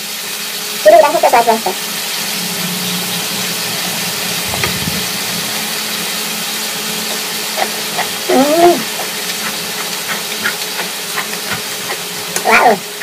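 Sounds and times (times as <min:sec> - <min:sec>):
meat and vegetables sizzling: 0:00.0 - 0:13.0.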